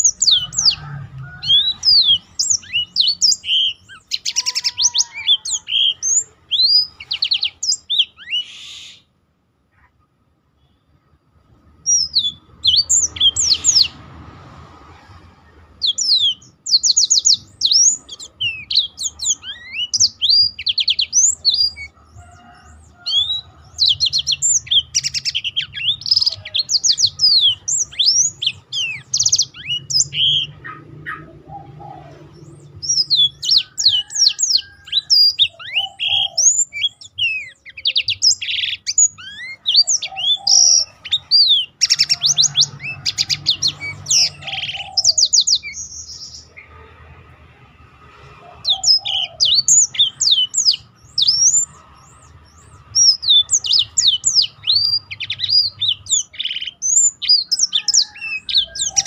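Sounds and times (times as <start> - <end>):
canary singing trills: 0.0 - 9.2, 11.6 - 14.2, 14.8 - 47.0, 48.0 - 59.0.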